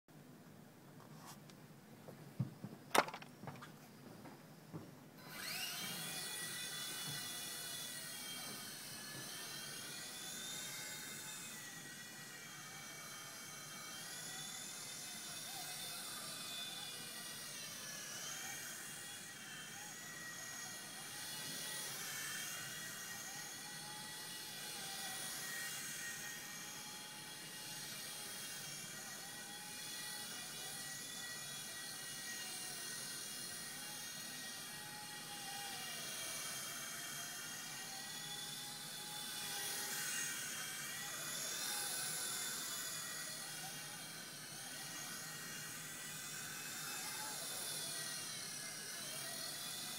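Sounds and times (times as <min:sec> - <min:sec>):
toy helicopter motor whine: 0:02.9 - 0:03.7, 0:05.2 - 0:49.9.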